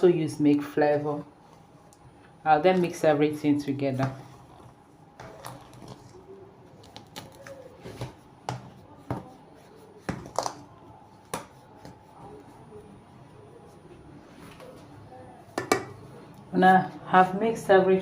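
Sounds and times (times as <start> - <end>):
soft rustling of dry ingredients: 0.1 - 17.1.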